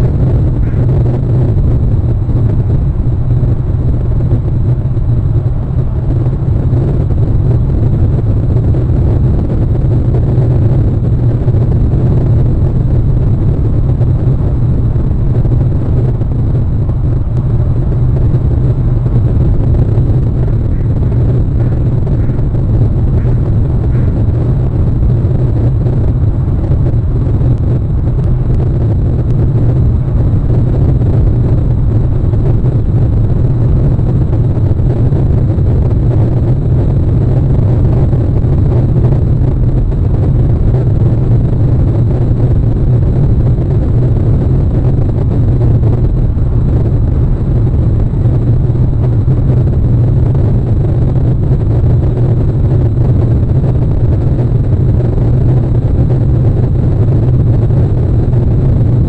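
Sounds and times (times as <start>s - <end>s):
loud low rumble: 0.0s - 59.0s.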